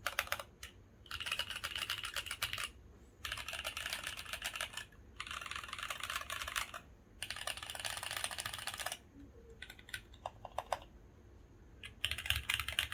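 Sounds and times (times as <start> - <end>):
mechanical keyboard typing: 0.0 - 10.9, 11.8 - 12.9.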